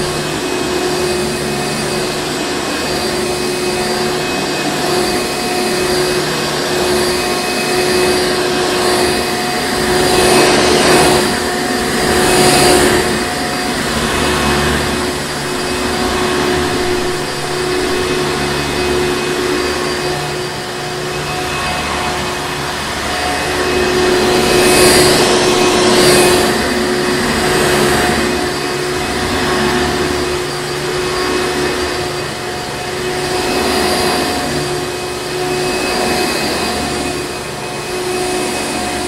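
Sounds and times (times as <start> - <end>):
upright vacuum cleaner running: 0.0 - 39.0.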